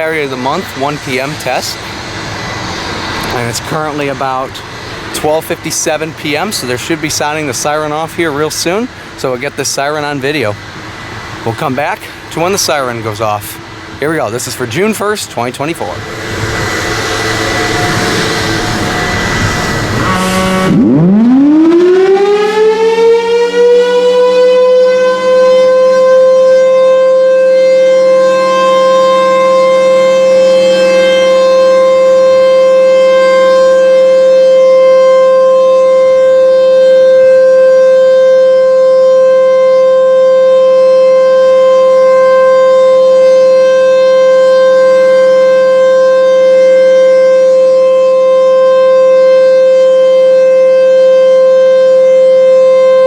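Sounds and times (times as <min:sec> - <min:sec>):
tornado siren wailing: 0:00.0 - 0:53.0.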